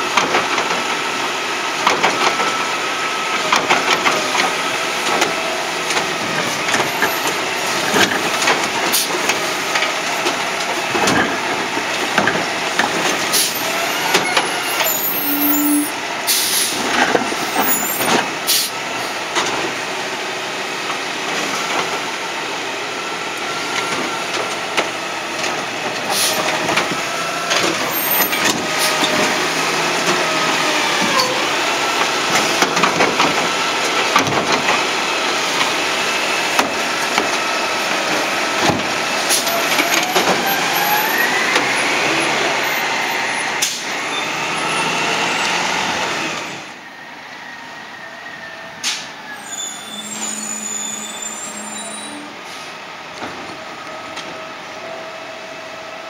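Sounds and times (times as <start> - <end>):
garbage truck engine and hydraulics: 0.0 - 56.0.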